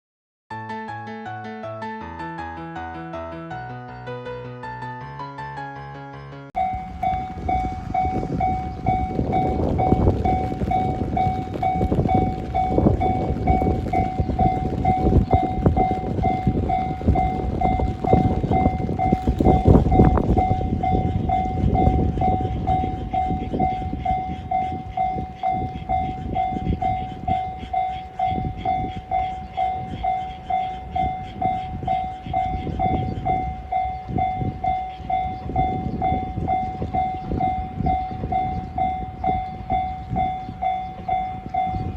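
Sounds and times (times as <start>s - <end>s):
diesel train rumbling past: 6.6s - 41.9s
level crossing bell ringing: 6.6s - 41.9s.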